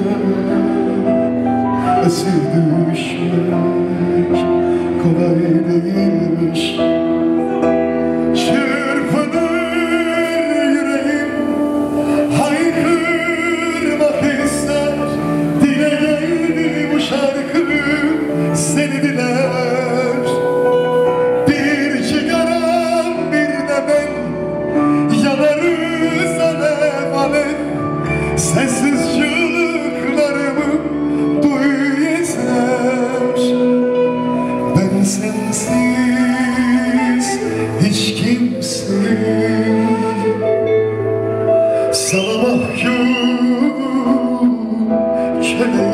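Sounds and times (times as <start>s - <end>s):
man singing with vibrato: 0.0s - 45.9s.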